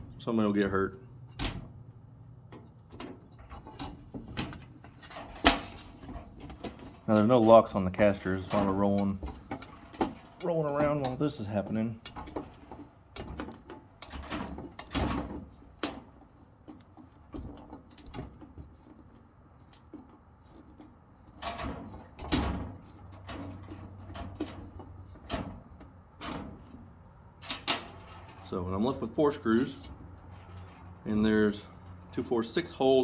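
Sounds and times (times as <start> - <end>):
knocks and metal clatter: 0.0 - 33.0.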